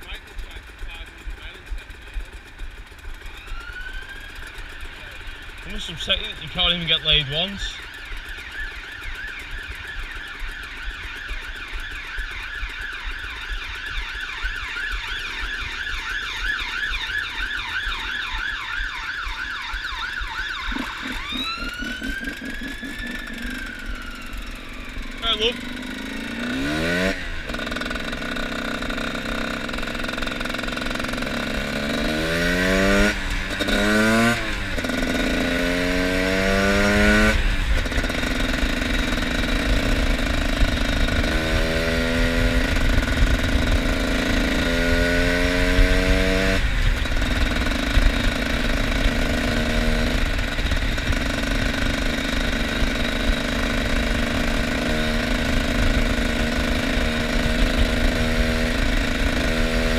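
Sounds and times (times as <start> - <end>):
two-stroke motorbike engine accelerating: 0.0 - 59.9.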